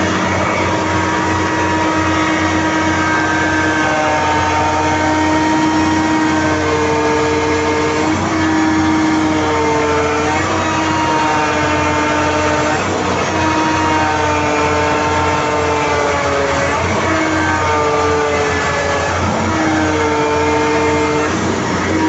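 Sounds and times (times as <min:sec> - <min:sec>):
hydraulic pump low hum: 0:00.0 - 0:22.0
whining tones: 0:00.0 - 0:22.0.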